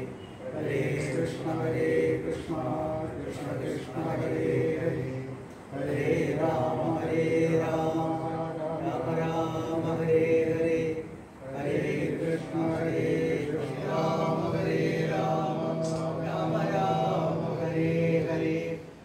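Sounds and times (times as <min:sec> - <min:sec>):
voices chanting: 0:00.0 - 0:19.0.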